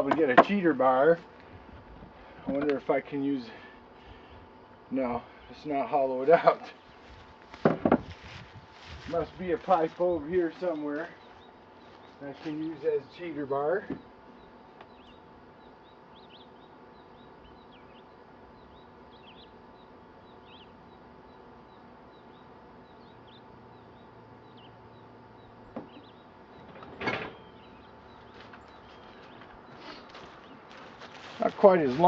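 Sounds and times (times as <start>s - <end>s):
low steady hum: 0.0s - 32.0s
small birds chirping: 0.1s - 32.0s.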